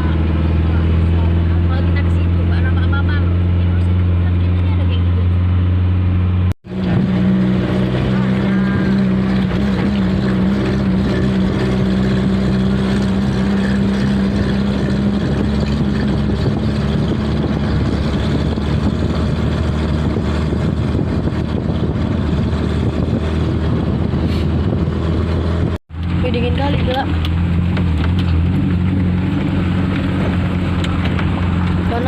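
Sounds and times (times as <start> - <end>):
engine hum: 0.0 - 32.0.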